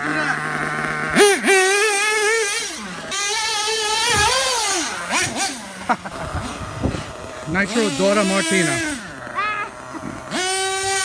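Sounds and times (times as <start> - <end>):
small engine high revs buzz: 0.0 - 11.0.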